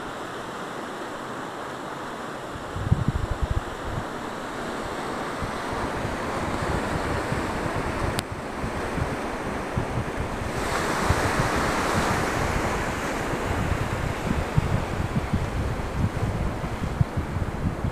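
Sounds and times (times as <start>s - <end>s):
ocean surf breaking: 0.0s - 17.9s
wind buffeting microphone: 2.4s - 17.9s.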